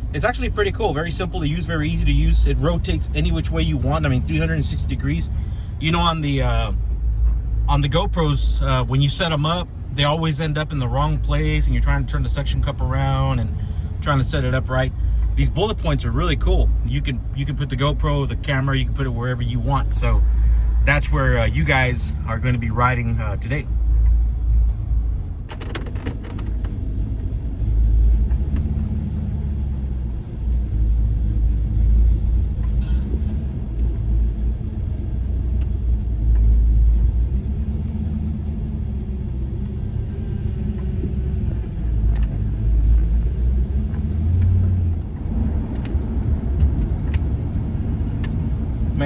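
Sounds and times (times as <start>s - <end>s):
car engine rumble from inside cabin: 0.0s - 49.0s.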